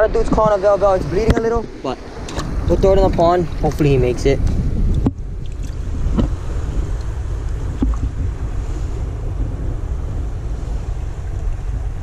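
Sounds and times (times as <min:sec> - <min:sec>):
ocean surf on rocks: 0:00.0 - 0:12.0
wind buffeting microphone: 0:00.0 - 0:12.0.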